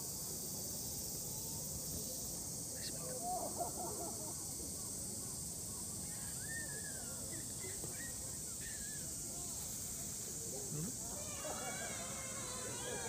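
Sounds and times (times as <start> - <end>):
high-pitched hiss: 0.0 - 13.0
distant calls or voices: 0.2 - 13.0.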